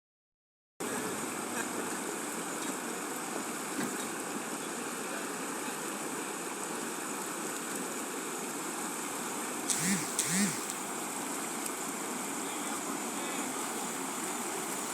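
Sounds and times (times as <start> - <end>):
rushing water: 0.8 - 9.8, 10.7 - 14.9.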